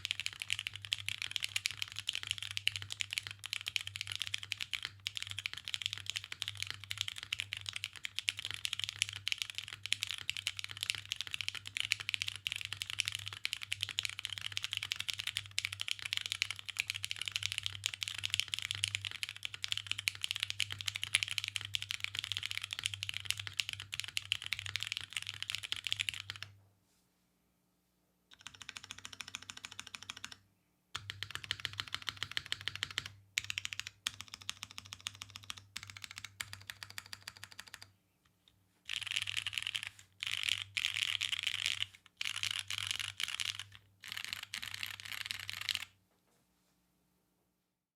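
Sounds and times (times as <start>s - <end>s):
fast mechanical keyboard typing: 0.0s - 26.5s, 28.3s - 30.4s, 31.0s - 37.9s, 38.9s - 45.9s.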